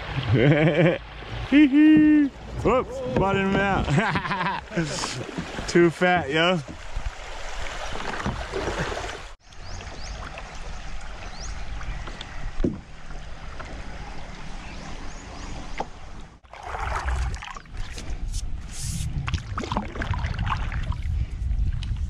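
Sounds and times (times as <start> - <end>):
river water rushing around kayak: 0.0 - 21.0
quiet water murmur: 0.0 - 22.0.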